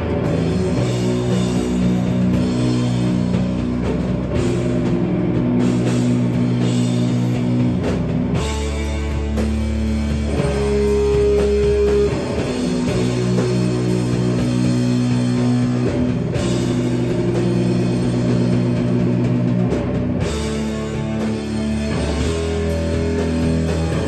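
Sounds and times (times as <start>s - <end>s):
heavy rock band playing: 0.0s - 24.0s.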